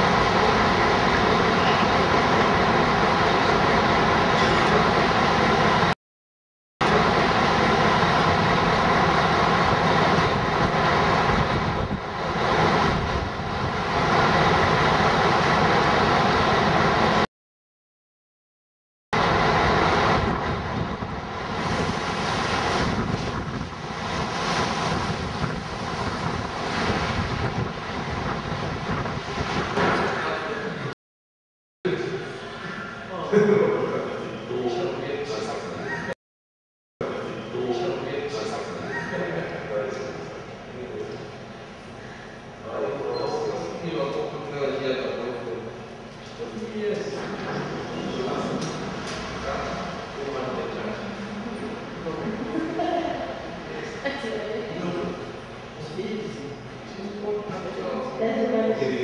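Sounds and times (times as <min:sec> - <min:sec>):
dense droning noise: 0:00.0 - 0:06.0, 0:06.8 - 0:17.3, 0:19.2 - 0:31.0, 0:37.0 - 0:59.0.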